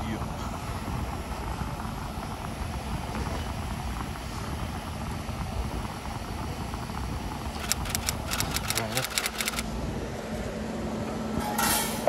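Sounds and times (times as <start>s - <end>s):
condenser fan air noise: 0.0s - 12.0s
freezer compressor humming: 0.0s - 12.0s.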